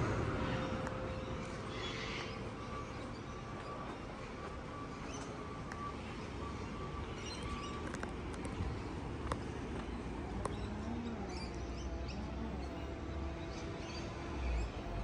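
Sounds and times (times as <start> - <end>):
birds chirping: 0.0 - 15.0
distant traffic: 0.0 - 15.0
wind: 0.0 - 15.0.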